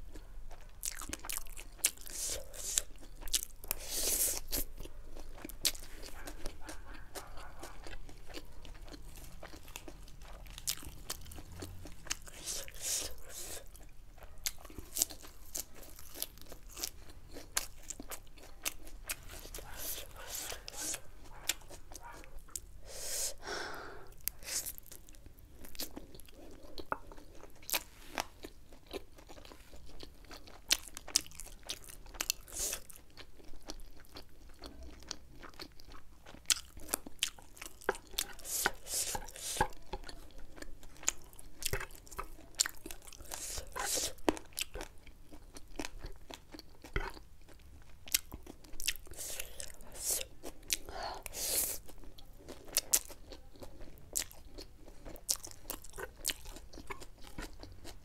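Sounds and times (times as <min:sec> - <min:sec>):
wet chewing and crunching: 0:00.0 - 0:23.0, 0:24.0 - 0:58.0.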